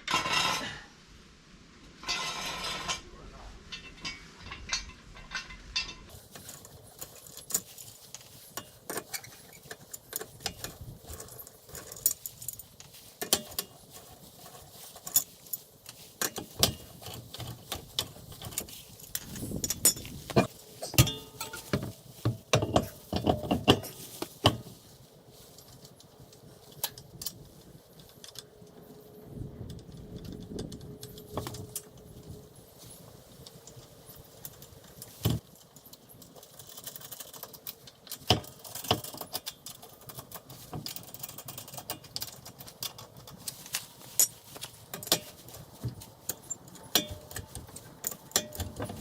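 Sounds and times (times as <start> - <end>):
metal tools clinking and rattling: 2.0 - 49.0.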